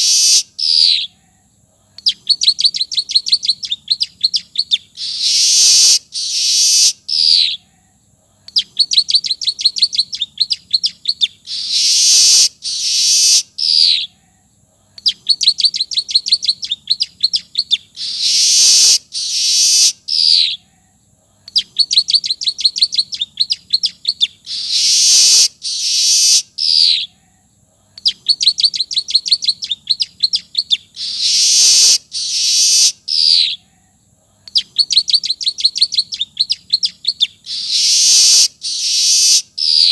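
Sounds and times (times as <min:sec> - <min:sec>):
songbird trilling phrases: 0:00.0 - 0:39.9.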